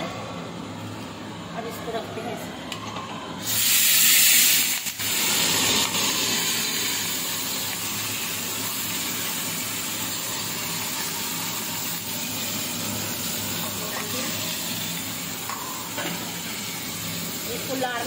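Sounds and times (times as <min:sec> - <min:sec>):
fish sizzling in hot oil: 0:03.4 - 0:18.0.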